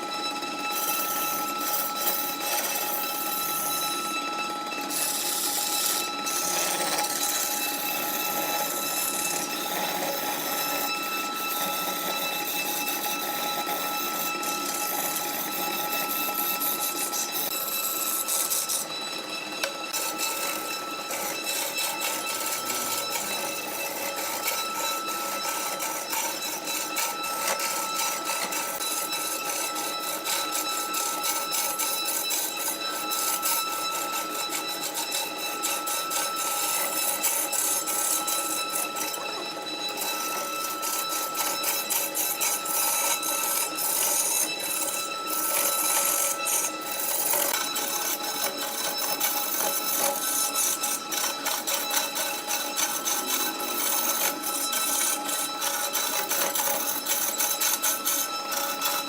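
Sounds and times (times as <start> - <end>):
wood lathe whine: 0.0 - 59.0
turning tool scraping wood: 0.6 - 59.0.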